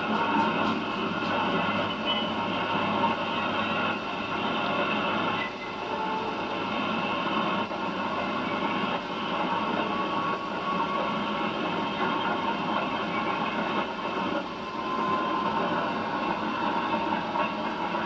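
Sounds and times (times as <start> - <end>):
locomotive engine: 0.0 - 18.0
rail and wheel noise: 0.0 - 18.0.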